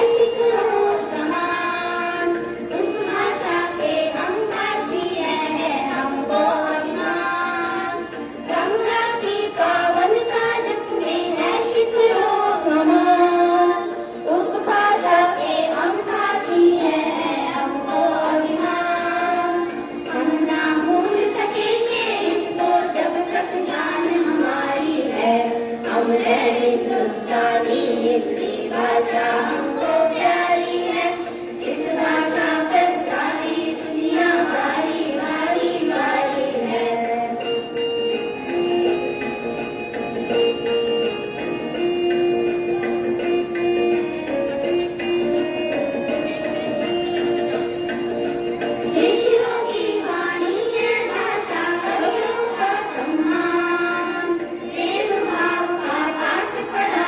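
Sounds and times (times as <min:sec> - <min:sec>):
children singing in chorus: 0:00.0 - 0:57.0.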